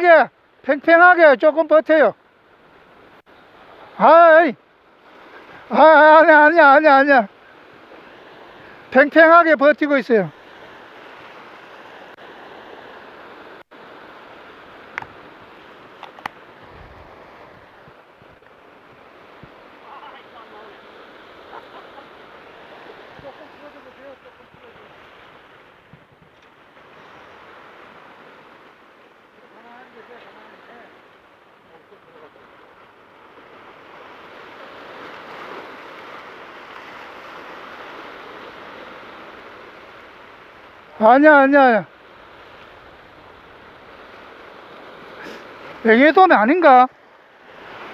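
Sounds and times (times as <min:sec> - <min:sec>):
surf washing over rocks: 0:00.0 - 0:47.9.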